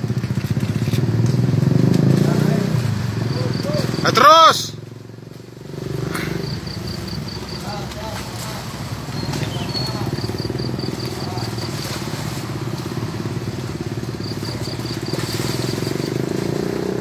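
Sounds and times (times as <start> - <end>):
small engine idling: 0.0 - 1.7, 4.8 - 17.0.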